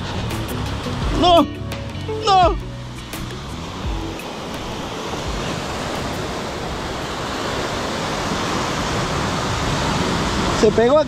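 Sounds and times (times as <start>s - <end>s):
sea surf washing against rocks: 0.0s - 11.0s.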